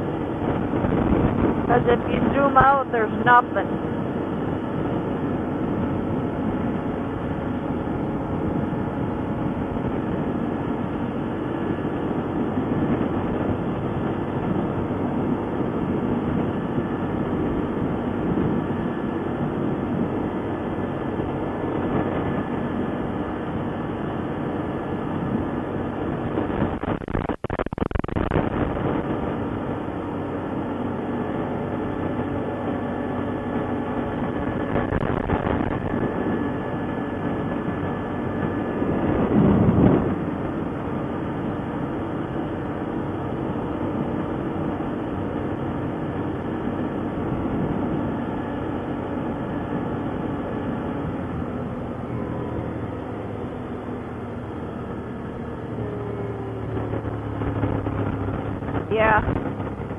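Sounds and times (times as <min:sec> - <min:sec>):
atv engine rumbling: 0:00.0 - 0:59.9.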